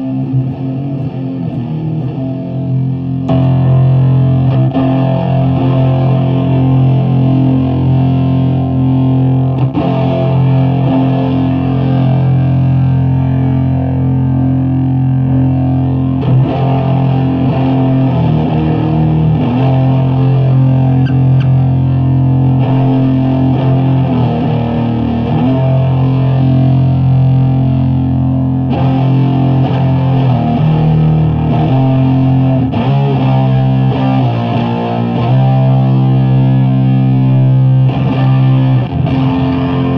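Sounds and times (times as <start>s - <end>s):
fuzzed electric guitar chords: 0.0s - 39.9s.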